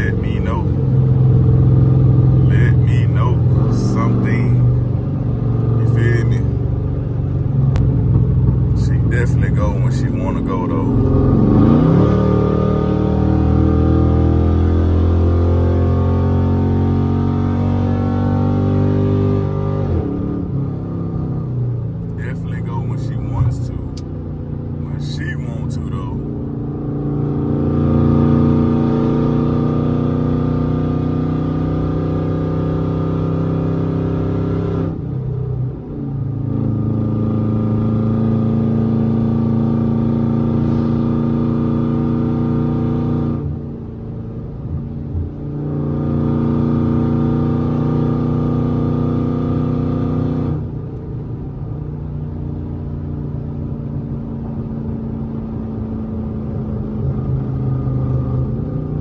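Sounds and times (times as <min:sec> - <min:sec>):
car engine revving while driving: 0:00.0 - 0:59.0.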